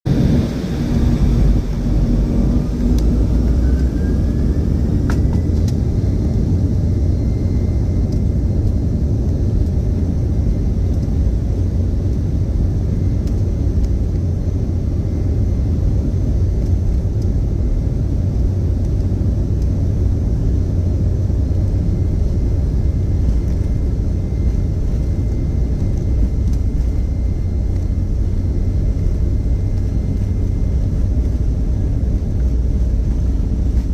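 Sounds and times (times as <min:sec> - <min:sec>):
airplane engines rumbling: 0:00.1 - 0:33.9
faint engine whine: 0:00.1 - 0:33.9.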